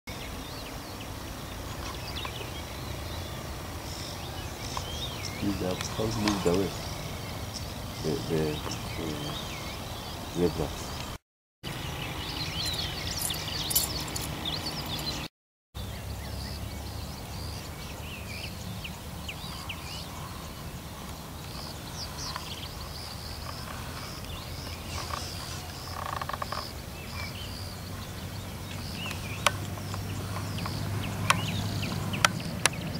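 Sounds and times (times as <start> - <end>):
birds chirping: 0.1 - 32.9.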